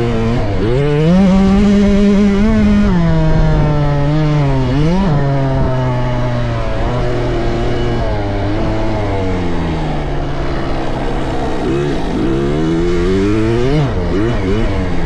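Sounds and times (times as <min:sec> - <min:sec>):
dirt bike engine revving: 0:00.0 - 0:15.0
drone of dirt bikes: 0:00.0 - 0:15.0.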